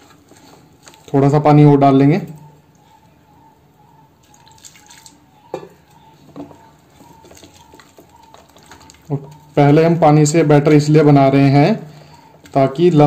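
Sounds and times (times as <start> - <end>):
hand mixing wet batter: 0.0 - 13.0.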